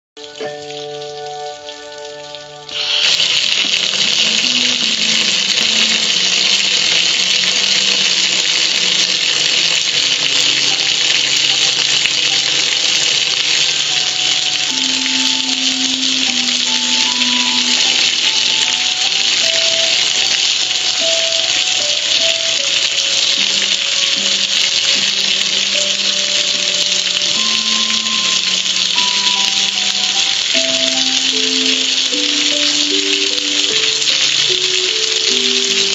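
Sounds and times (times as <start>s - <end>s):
faint slow melody: 0.2s - 8.9s, 12.8s - 35.9s
water spraying on grill: 0.4s - 35.9s.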